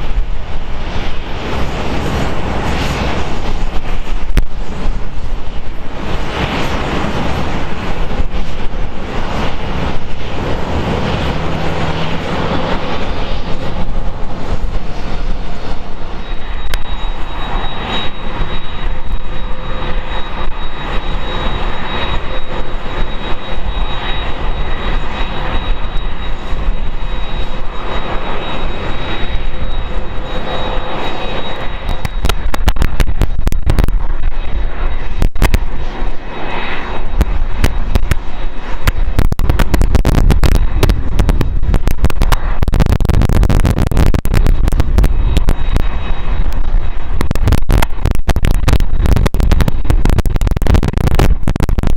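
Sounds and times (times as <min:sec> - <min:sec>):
high engine whine: 0:00.0 - 0:51.9
jet engines rushing: 0:00.0 - 0:51.9.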